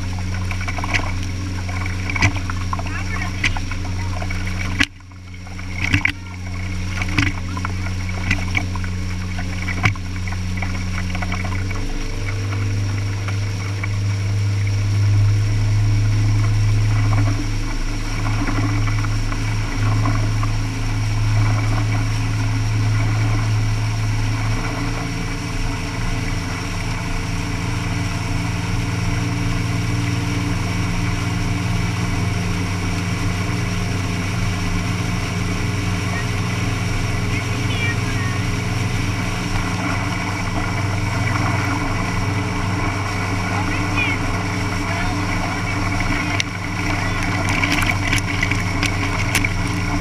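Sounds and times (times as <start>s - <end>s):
boat engine droning: 0.0s - 50.0s
water splashing along hull: 0.0s - 50.0s.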